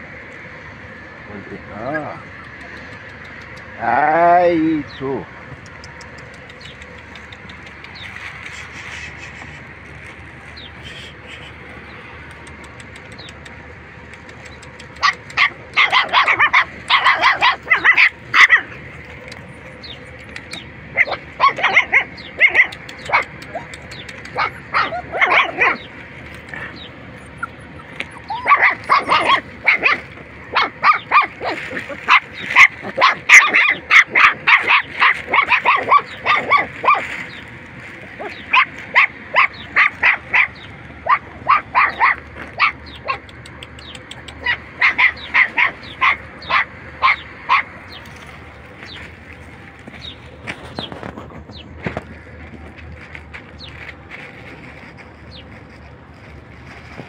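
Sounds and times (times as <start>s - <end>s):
puppies barking and yelping: 5.4s - 56.8s.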